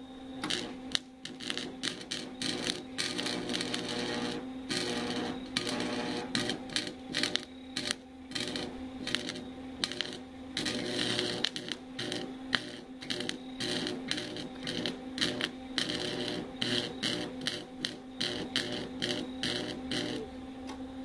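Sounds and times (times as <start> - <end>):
electrical hum: 0.0 - 21.0
welder arc crackling: 0.4 - 20.4.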